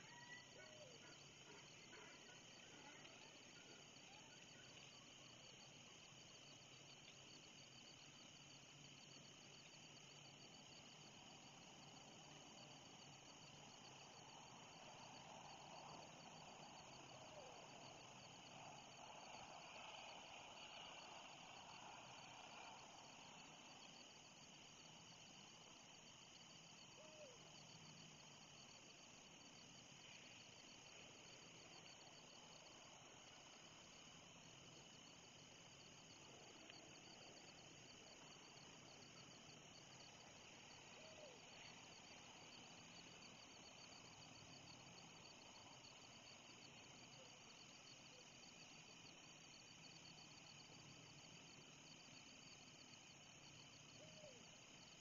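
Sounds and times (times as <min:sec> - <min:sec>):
insect chorus trilling: 0:00.0 - 0:55.0
low outdoor hiss: 0:00.0 - 0:55.0.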